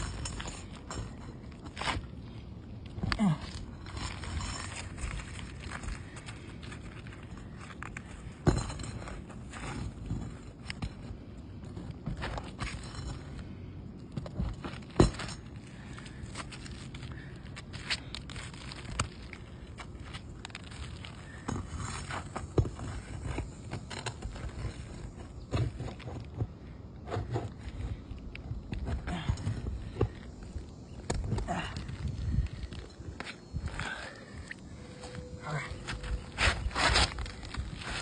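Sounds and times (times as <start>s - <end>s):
low steady rumble: 0.0s - 38.0s.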